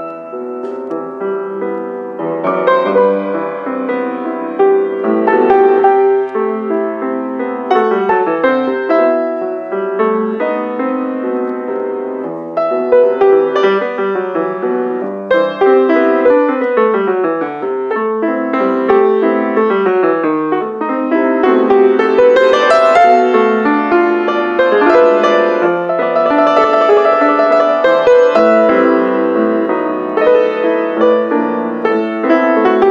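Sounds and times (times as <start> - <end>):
piano duet: 0.0 - 32.9.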